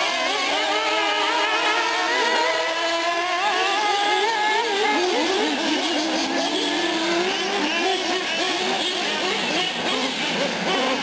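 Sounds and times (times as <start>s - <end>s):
model car engines whining and revving: 0.0s - 11.0s.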